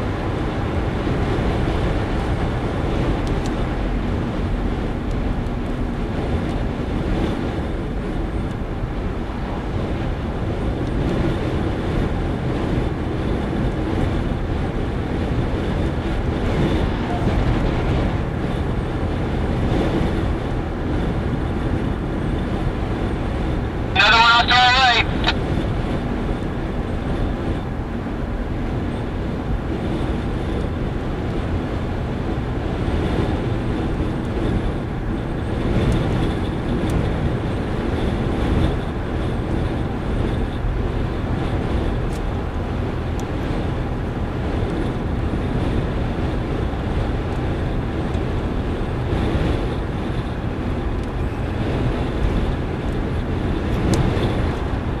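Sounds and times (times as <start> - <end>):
tyre and wind noise: 0.0 - 24.3, 24.9 - 55.0
car driving rumble: 0.0 - 55.0.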